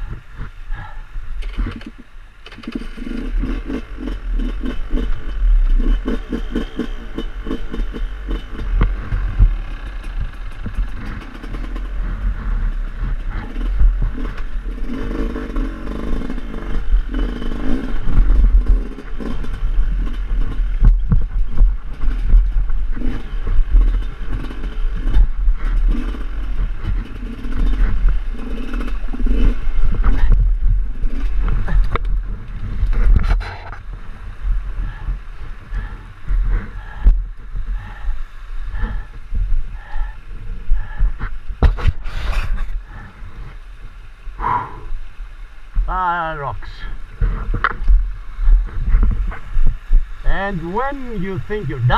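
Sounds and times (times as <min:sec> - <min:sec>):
motorcycle engine revving: 0:00.0 - 0:38.1, 0:47.1 - 0:51.9.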